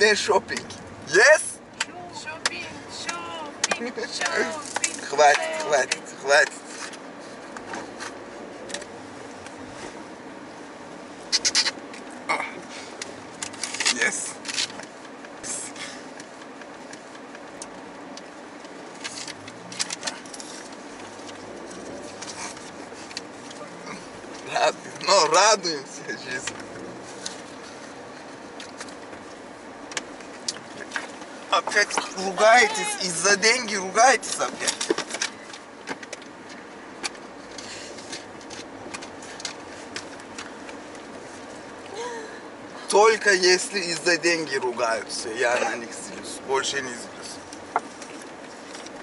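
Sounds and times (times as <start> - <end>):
car cabin road noise: 0.0 - 49.0.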